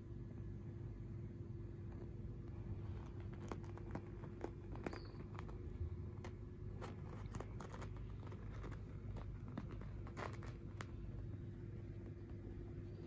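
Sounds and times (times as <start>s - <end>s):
bird feet tapping on fabric: 1.9s - 13.0s.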